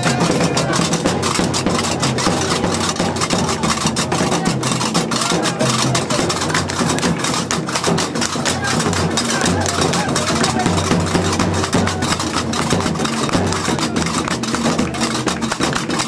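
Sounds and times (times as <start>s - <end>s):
crowd clapping along: 0.0s - 16.0s.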